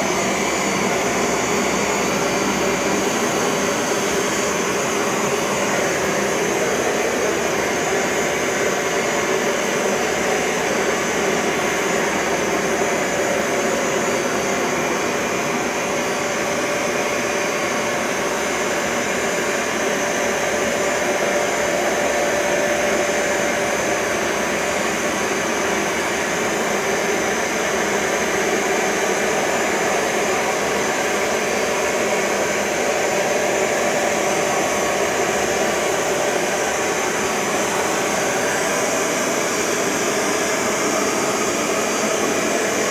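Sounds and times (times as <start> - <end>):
carpet cleaner running: 0.0 - 42.9.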